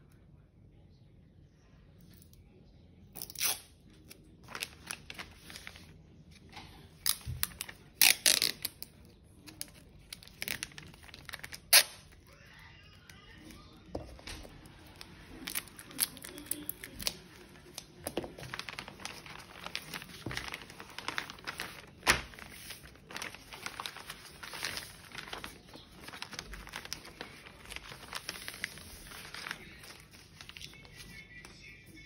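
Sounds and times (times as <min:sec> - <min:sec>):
paper rustling and crinkling: 0:04.4 - 0:12.4, 0:13.3 - 0:31.6.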